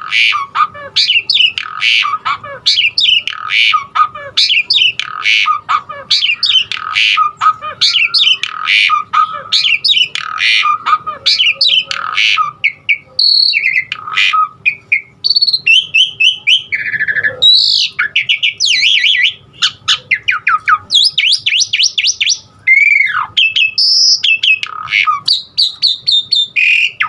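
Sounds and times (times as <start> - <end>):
harsh squawking bird notes: 0.0 - 27.0
starling singing: 0.0 - 27.0.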